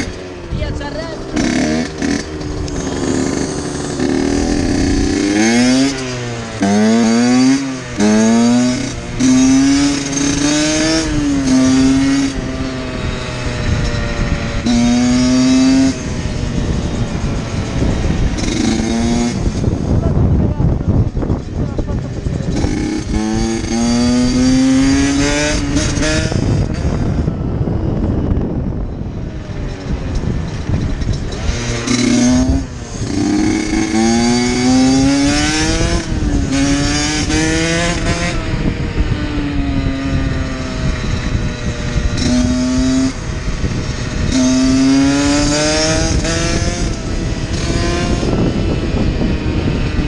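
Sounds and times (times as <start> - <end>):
motorcycle engine shifting gears: 0.0 - 50.0
wind rushing: 0.0 - 50.0.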